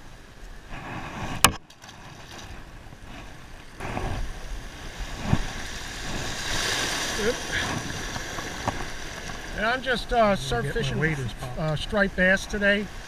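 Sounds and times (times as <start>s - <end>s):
shallow surf washing: 0.0s - 13.0s.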